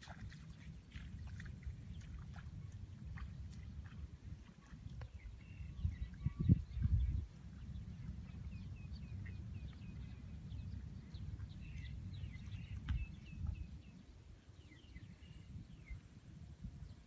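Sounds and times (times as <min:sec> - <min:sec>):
small birds chirping: 0:00.0 - 0:16.2
steady low rumble: 0:00.1 - 0:17.0.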